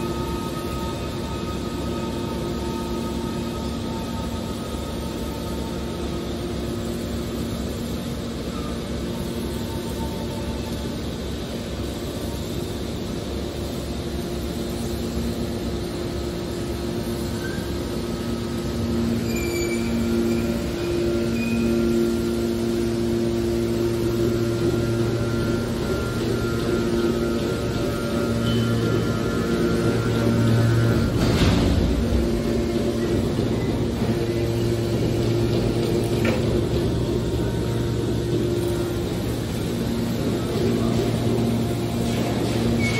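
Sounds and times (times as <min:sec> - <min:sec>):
hydraulic baler motor drone: 0:00.0 - 0:42.9.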